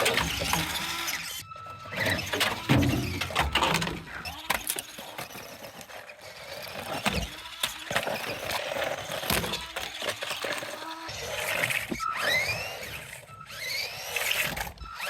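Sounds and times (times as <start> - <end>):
rc truck chassis clattering: 0.0 - 15.0.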